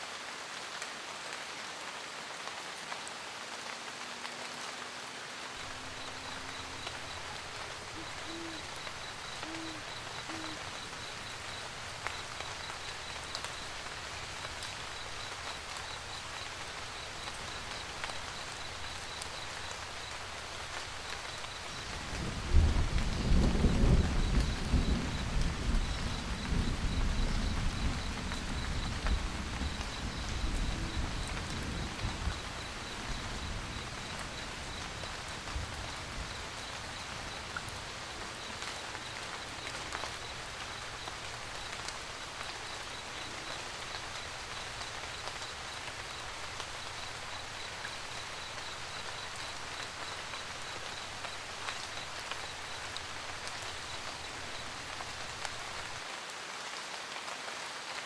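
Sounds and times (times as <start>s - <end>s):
rain pattering on van roof: 2.4s - 58.0s
distant thunder rumble: 5.6s - 56.0s.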